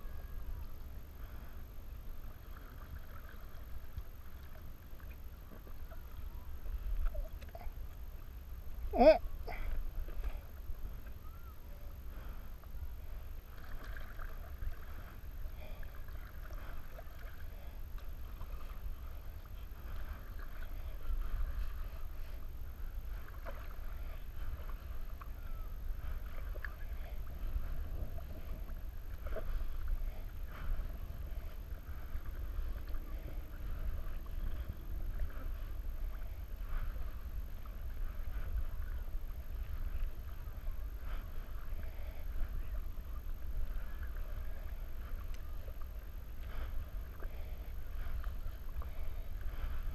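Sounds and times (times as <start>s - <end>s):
steady low rumble: 0.0s - 49.9s
water lapping and dripping: 0.1s - 49.9s
paddle splashing in water: 2.2s - 8.3s, 9.0s - 49.9s.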